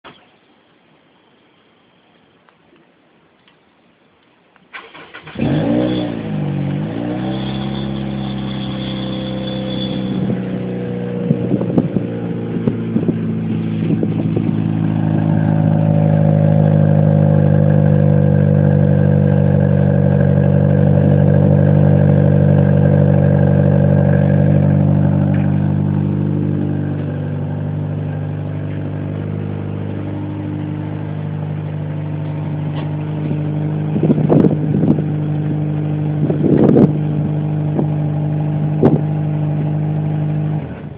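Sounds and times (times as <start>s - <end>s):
car engine starting and idling: 4.7s - 40.9s.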